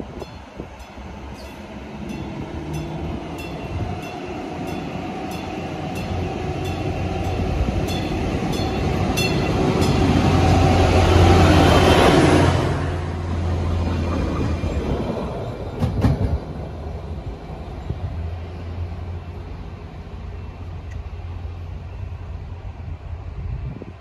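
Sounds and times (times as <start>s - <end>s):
train wheel noise: 0.0s - 21.9s
train engine hum: 0.0s - 24.0s.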